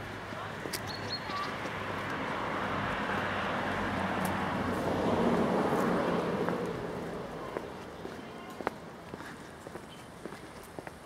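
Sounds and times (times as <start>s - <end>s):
vehicle passing on road: 0.0s - 10.9s.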